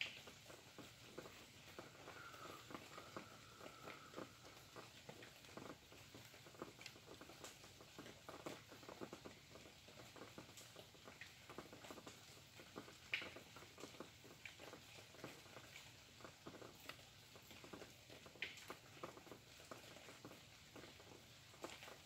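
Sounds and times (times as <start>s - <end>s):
raindrops pattering: 0.0s - 22.0s.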